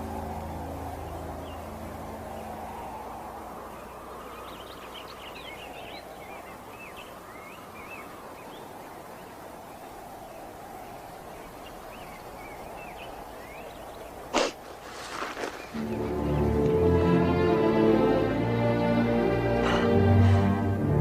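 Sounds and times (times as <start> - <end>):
small birds twittering: 0.0 - 17.0
steady rushing noise: 0.0 - 21.0.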